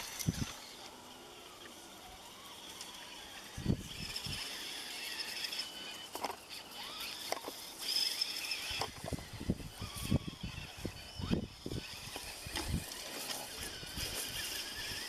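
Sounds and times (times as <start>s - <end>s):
high electric motor whine: 0.0s - 15.0s.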